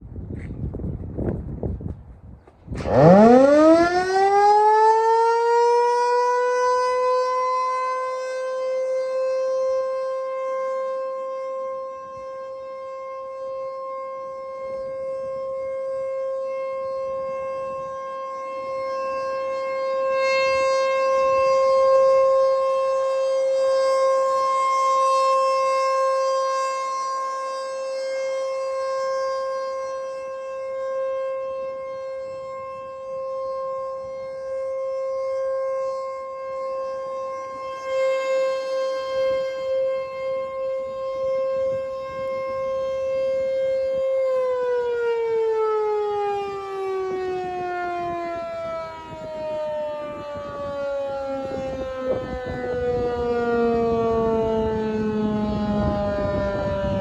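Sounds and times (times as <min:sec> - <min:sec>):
outdoor warning siren: 0:00.0 - 0:57.0.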